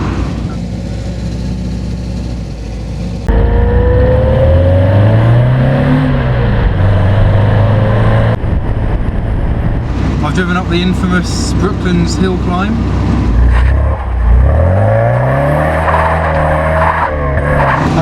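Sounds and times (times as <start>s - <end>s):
car engine accelerating: 0.0s - 18.0s
car engines droning: 0.0s - 18.0s.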